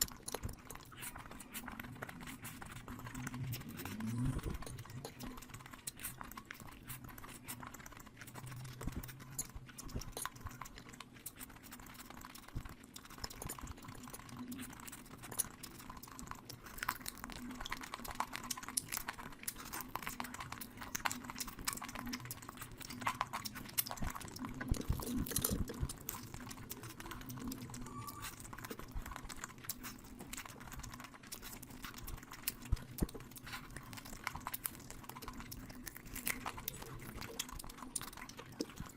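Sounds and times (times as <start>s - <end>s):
chewing and wet mouth sounds: 0.0s - 38.9s
faint steady hum: 0.0s - 38.9s.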